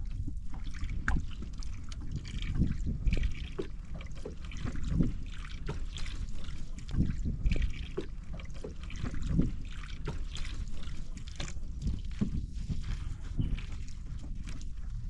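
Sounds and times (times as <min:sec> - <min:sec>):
seawater splashing around boat: 0:00.0 - 0:15.0
steady low rumble: 0:00.0 - 0:15.0.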